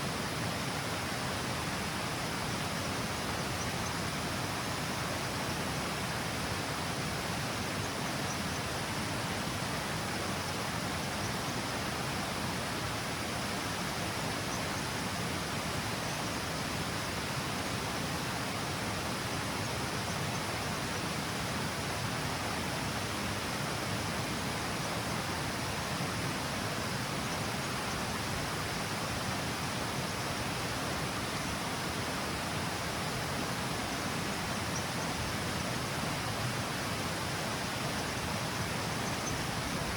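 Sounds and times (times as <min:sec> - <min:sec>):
river water rushing over cascade: 0:00.0 - 0:39.9.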